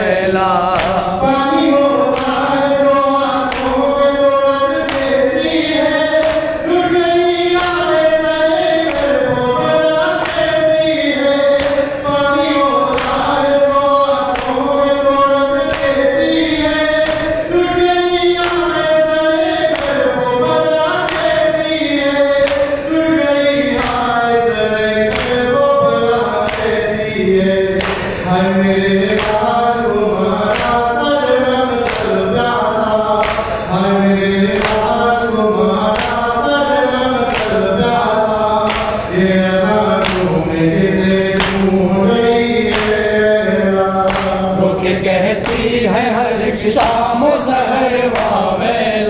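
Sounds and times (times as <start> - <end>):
group singing a lament: 0.0 - 49.0
sharp rhythmic beats: 0.0 - 49.0.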